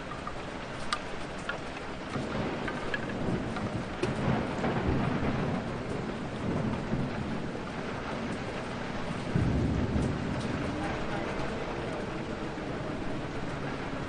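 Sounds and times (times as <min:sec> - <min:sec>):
heavy rainfall: 0:00.0 - 0:14.0
thunder rumbling: 0:00.0 - 0:14.0.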